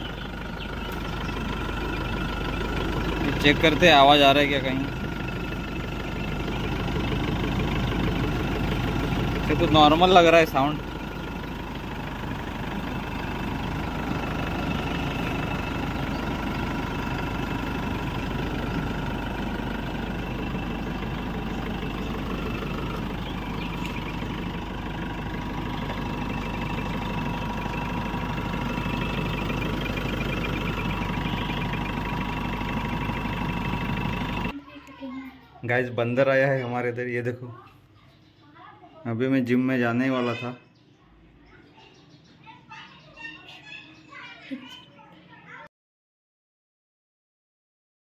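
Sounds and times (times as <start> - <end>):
diesel engine idling: 0.0 - 44.4.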